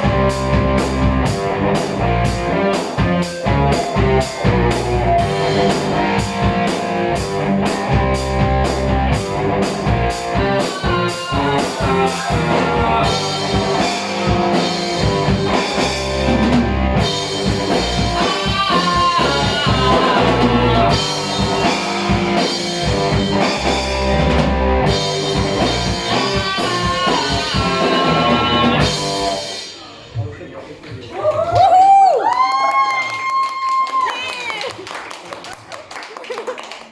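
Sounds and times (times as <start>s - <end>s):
lead guitar bending notes: 0.0s - 29.6s
heavy metal band playing live: 0.0s - 29.8s.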